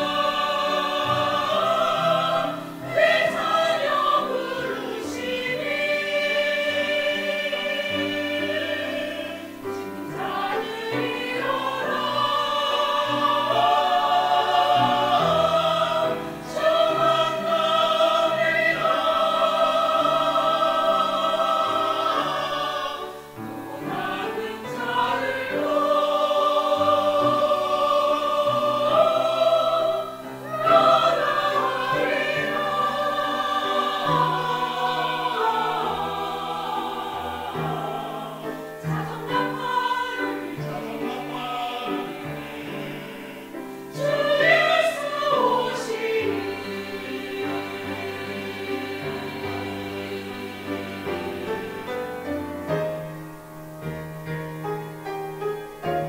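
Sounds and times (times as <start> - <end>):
mixed choir singing a hymn: 0.0 - 54.4.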